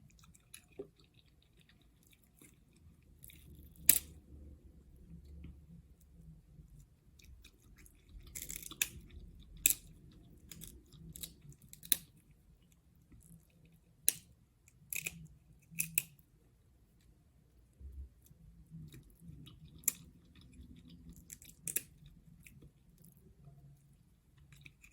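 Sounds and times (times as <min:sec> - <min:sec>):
chewing crab and shrimp: 0:00.0 - 0:16.2, 0:17.8 - 0:24.9.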